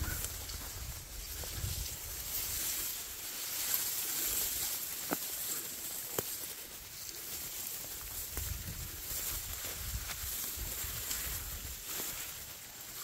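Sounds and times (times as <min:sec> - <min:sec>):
reeds rustling: 0:00.0 - 0:13.0.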